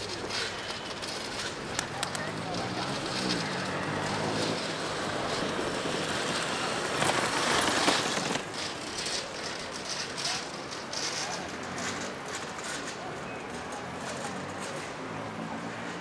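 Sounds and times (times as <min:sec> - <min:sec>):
city street noise: 0:00.0 - 0:16.0.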